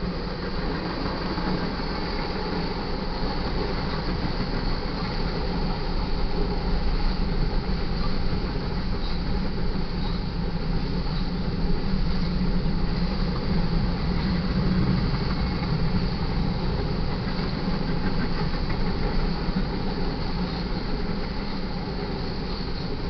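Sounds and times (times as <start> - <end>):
freight train rolling past: 0.0 - 23.0
steel wheels clattering on rail: 0.0 - 23.0.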